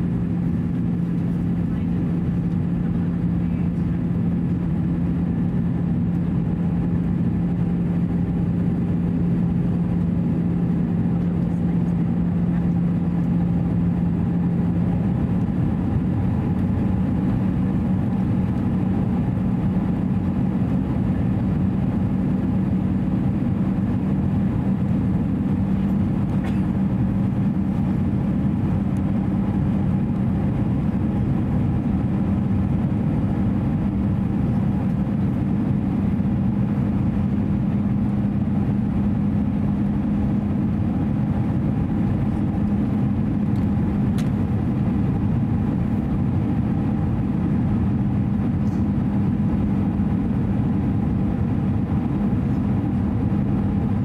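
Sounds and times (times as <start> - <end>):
airflow rush in cabin: 0.0 - 54.0
jet engine hum: 0.0 - 54.0.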